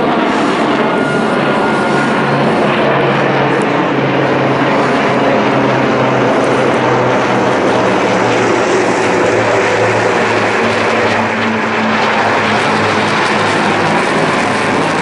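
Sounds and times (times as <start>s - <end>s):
propeller airplane engine: 0.0s - 15.0s.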